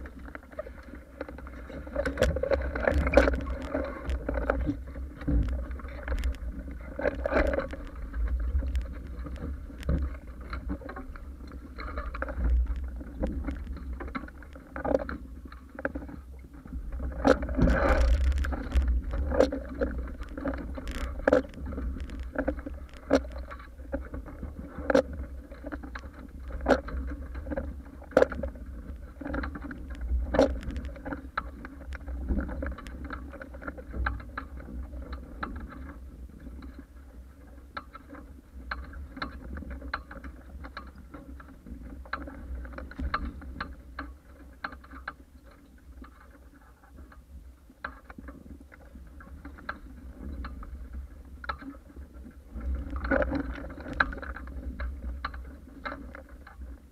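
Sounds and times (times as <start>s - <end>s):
water slapping against hull: 0.0s - 47.2s
wind rumble on microphone: 0.0s - 56.9s.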